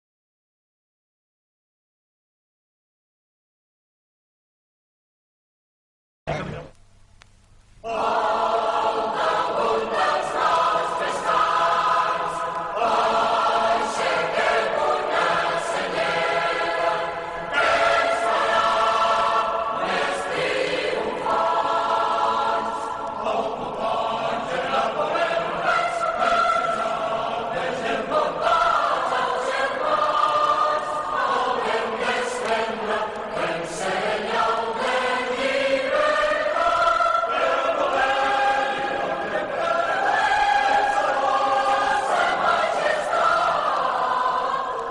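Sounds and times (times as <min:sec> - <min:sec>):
choir singing long notes: 0:07.8 - 0:44.9.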